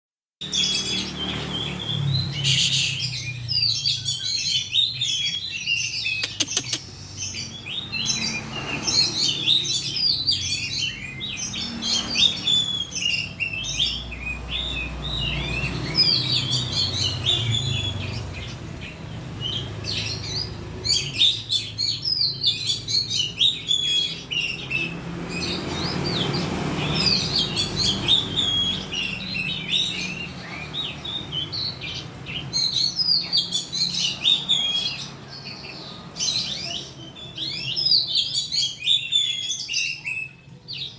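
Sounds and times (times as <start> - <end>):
bird singing chirps and whistles: 0.4 - 40.9.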